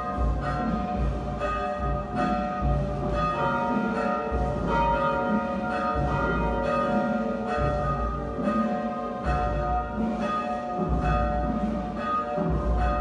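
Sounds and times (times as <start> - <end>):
church bells tolling: 0.0 - 13.0.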